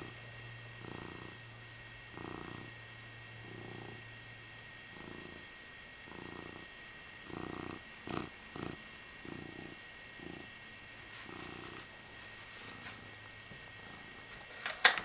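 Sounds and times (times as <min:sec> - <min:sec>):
cat purring: 0:00.0 - 0:01.5, 0:02.1 - 0:04.1, 0:04.9 - 0:12.0, 0:12.6 - 0:14.3.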